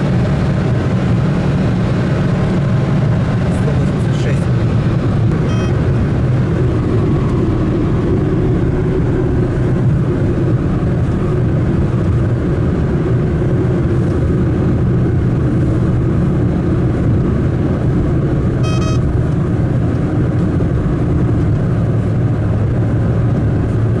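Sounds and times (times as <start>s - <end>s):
road noise: 0.0s - 24.0s
vehicle engine rumble: 0.0s - 24.0s.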